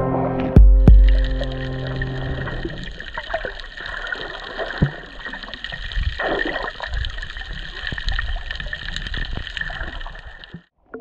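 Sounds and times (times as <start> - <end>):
water splashing: 0.6 - 11.0.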